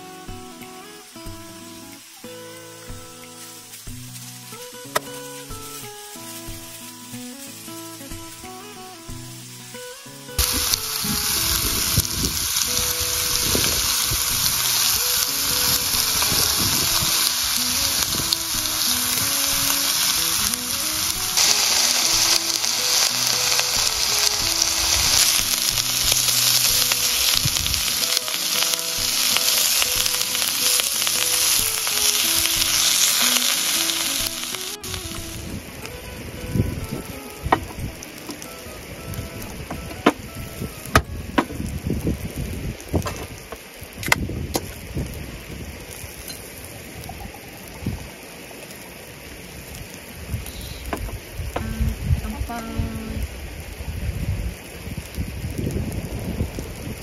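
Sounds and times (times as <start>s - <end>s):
meat sizzling on grill pan: 0.0s - 51.7s.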